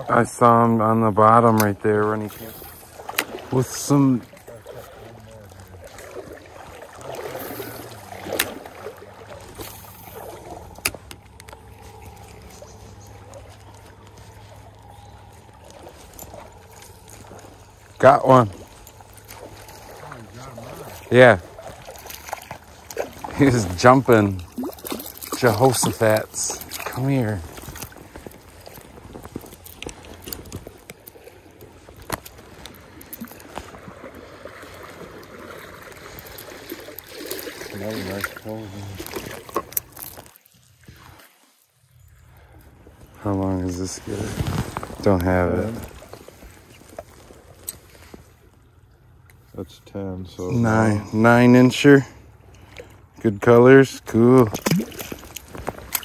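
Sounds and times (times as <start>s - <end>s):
stream water sloshing: 0.0s - 56.0s.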